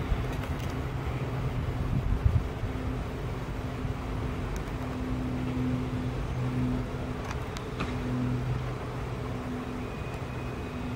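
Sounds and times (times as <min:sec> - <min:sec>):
low hum: 0:00.0 - 0:10.9
train rumbling on tracks: 0:00.0 - 0:10.9.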